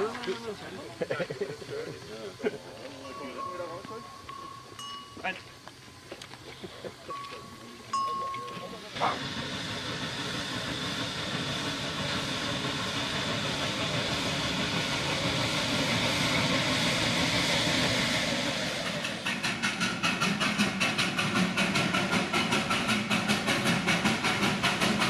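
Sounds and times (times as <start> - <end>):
steam locomotive exhaust chuffing: 0.0 - 25.0
steam locomotive hissing steam: 0.0 - 25.0.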